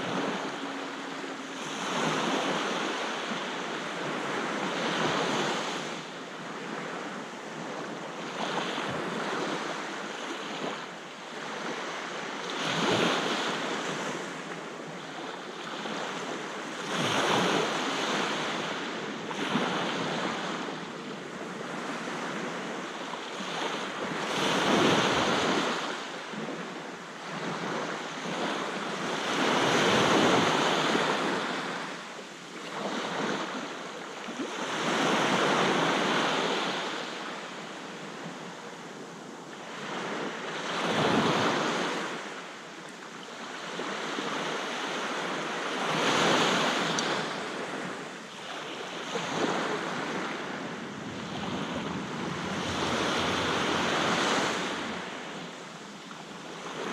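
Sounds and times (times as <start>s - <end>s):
sea waves breaking on beach: 0.0s - 56.9s.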